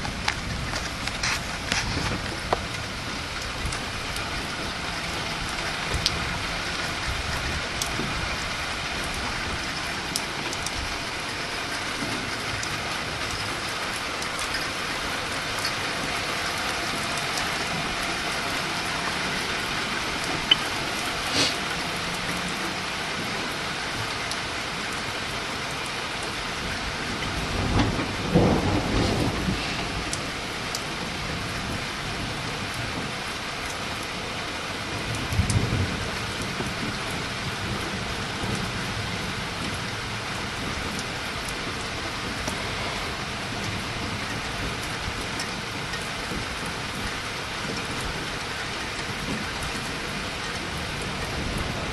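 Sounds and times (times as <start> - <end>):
thunder rumble: 0.0 - 25.3, 26.2 - 33.5, 34.9 - 51.9
steady rain falling: 0.0 - 51.9.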